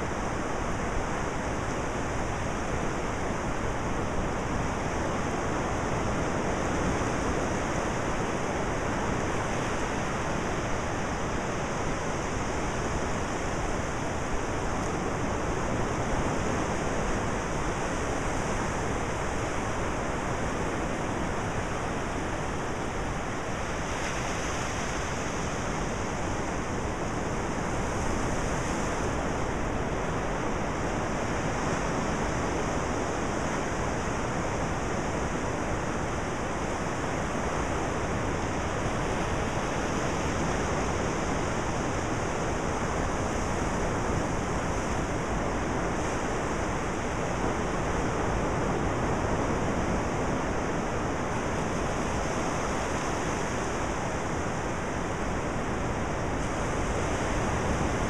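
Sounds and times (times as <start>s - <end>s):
waves washing up a beach: 0.0s - 58.0s.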